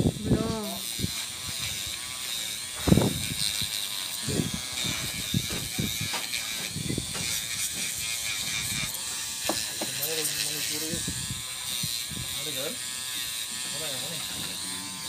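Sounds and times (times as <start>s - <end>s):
electric nail drill whine: 0.0s - 15.0s.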